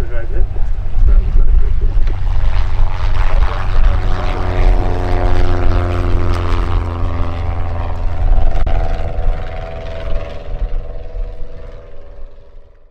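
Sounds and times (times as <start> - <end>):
airplane engine and propeller: 0.0 - 12.9.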